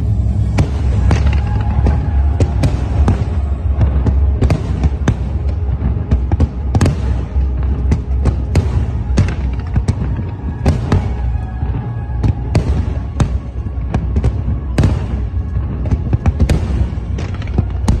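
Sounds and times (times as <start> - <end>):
firework shells bursting: 0.0 - 18.0
low rumble of explosions: 0.0 - 18.0.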